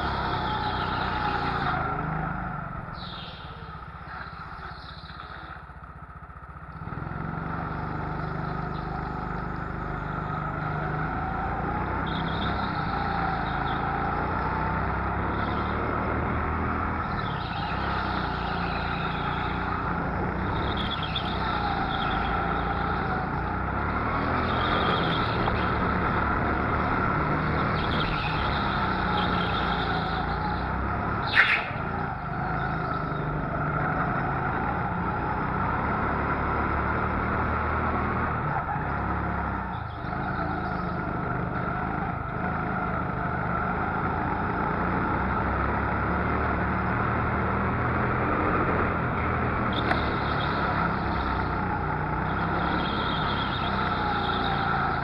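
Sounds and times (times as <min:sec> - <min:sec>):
go-kart engine running hard: 0:00.0 - 0:55.0.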